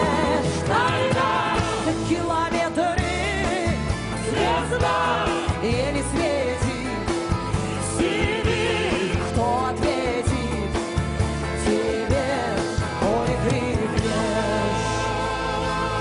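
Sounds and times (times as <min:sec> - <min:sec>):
backing band playing: 0:00.0 - 0:16.0.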